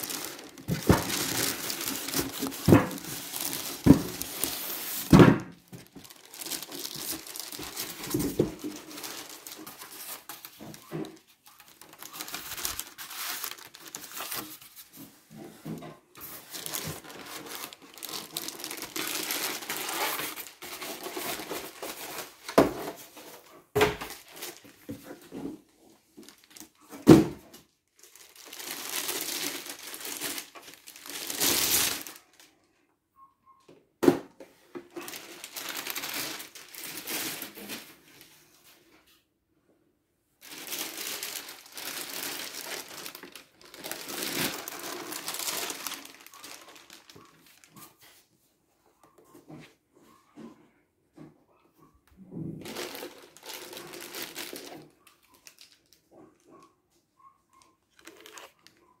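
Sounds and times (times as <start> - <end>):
plastic bag crinkling: 0.0 - 27.0, 27.9 - 32.6, 34.9 - 38.3, 40.4 - 47.9, 52.5 - 56.1, 57.6 - 58.9.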